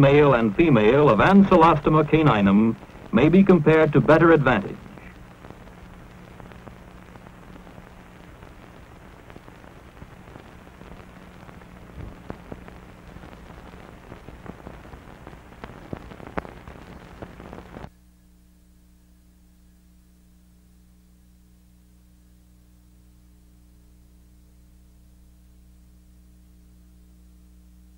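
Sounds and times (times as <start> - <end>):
film soundtrack hiss and crackle: 0.0 - 27.9.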